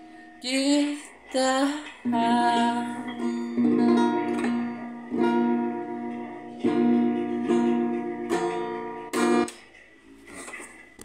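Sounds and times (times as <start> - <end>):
acoustic guitar strumming: 0.0 - 9.7.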